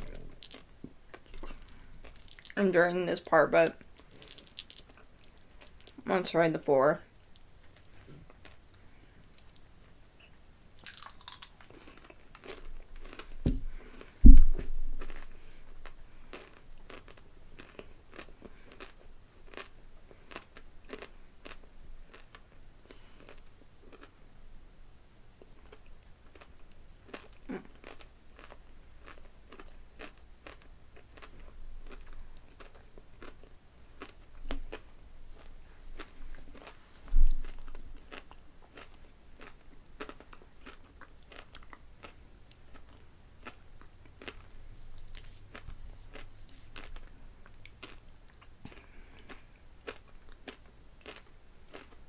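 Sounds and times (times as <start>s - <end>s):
crunching and chewing candy: 0.0s - 2.7s, 3.6s - 6.1s, 7.3s - 9.8s, 10.8s - 14.2s, 14.9s - 24.2s, 25.4s - 52.0s.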